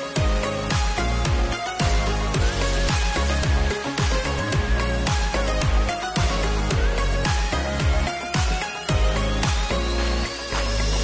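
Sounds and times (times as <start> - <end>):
electronic melody: 0.0 - 11.0
deep kick drum: 0.2 - 9.7.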